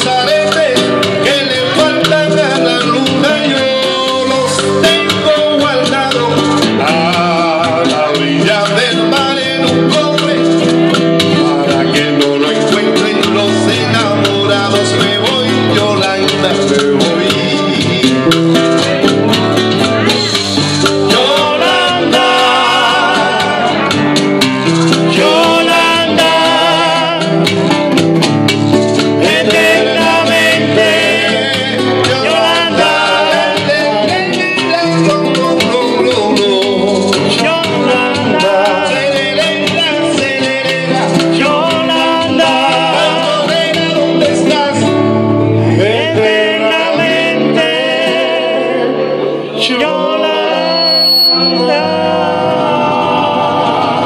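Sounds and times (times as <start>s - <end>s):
man singing into a microphone: 0.0s - 24.2s, 24.9s - 27.8s, 29.0s - 54.0s
backing track with guitar: 0.0s - 54.0s.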